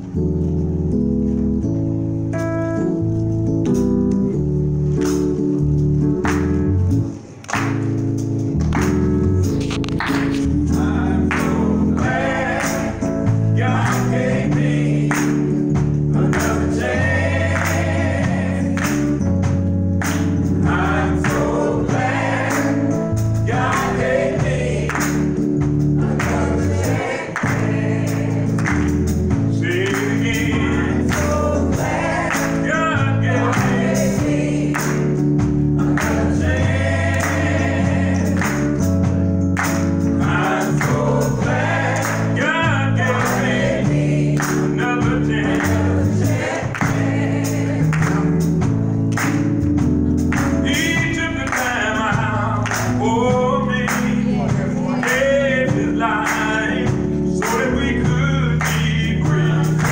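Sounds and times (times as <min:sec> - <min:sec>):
electronic keyboard chords: 0:00.0 - 0:59.9
steady beat: 0:07.7 - 0:59.9
gospel choir singing: 0:10.3 - 0:19.3, 0:20.0 - 0:49.6, 0:50.3 - 0:59.9.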